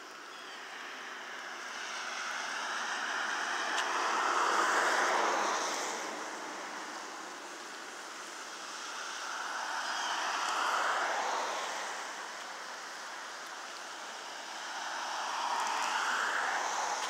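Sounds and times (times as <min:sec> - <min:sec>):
car tyres hissing on wet road: 0:00.6 - 0:17.0.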